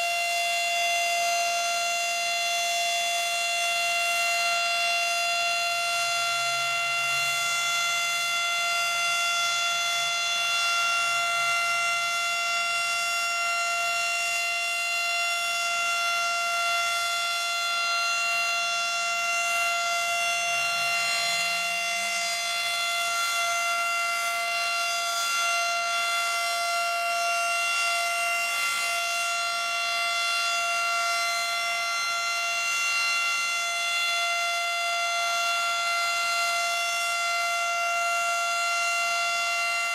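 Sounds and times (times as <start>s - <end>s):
single-tone siren: 0.0s - 39.9s.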